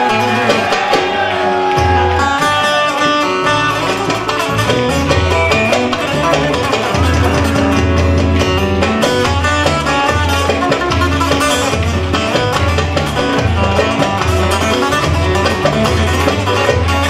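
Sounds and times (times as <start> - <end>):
darbuka drum: 0.0 - 17.0
plucked saz melody: 1.9 - 17.0.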